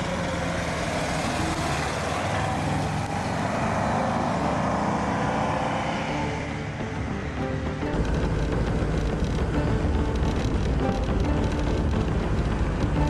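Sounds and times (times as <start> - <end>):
car engine driving past: 0.0 - 13.0.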